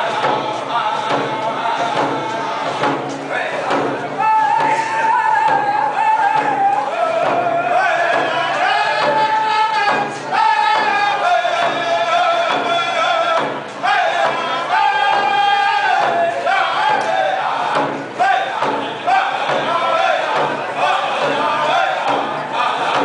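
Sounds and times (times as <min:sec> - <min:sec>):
drums beating: 0:00.0 - 0:23.0
group singing in unison: 0:00.0 - 0:23.0.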